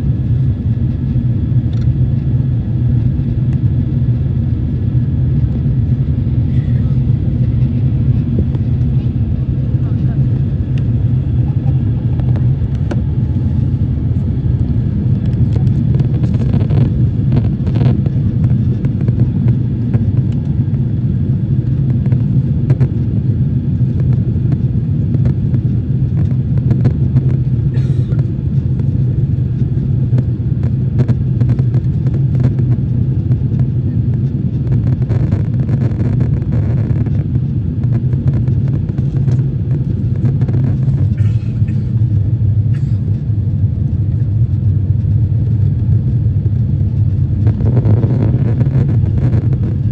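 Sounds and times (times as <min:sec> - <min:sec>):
aircraft cabin engine rumble: 0:00.0 - 0:49.9.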